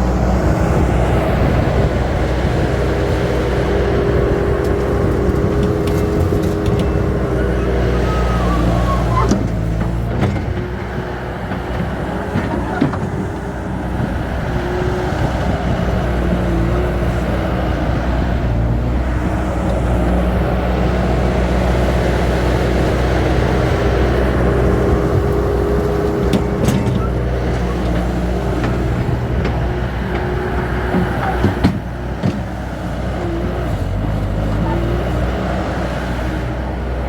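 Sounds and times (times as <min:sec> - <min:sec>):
dirt loading into truck: 0:00.0 - 0:37.0
heavy machine engine running: 0:00.0 - 0:37.0.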